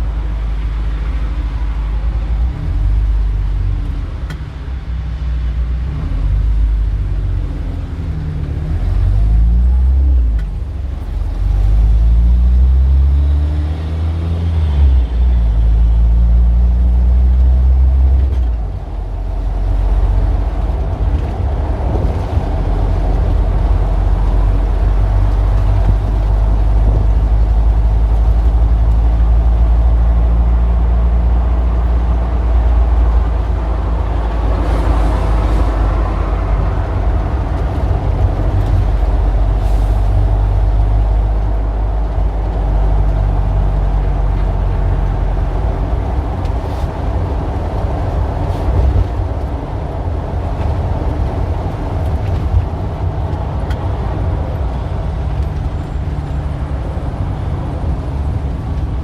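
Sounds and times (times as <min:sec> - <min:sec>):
heavy vehicle engine rumbling: 0:00.0 - 0:59.0
street traffic: 0:00.0 - 0:59.0.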